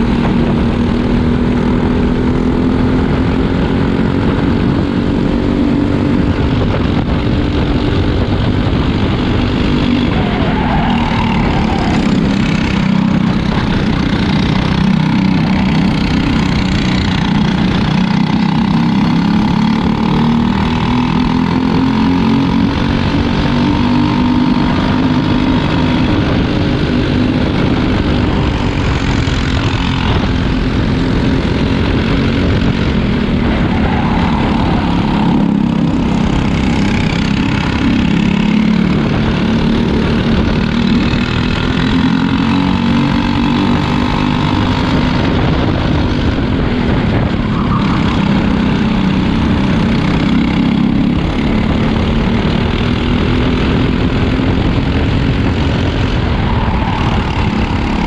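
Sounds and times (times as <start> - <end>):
another kart engine: 0.0 - 58.0
kart engine racing: 0.0 - 58.0.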